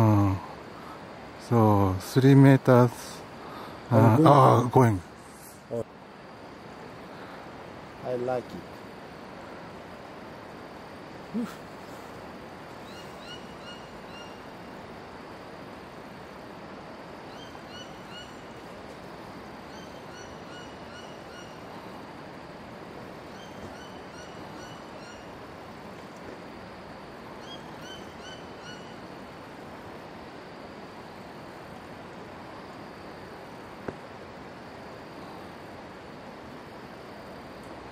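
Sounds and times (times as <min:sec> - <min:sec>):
background hiss: 0:00.0 - 0:37.9.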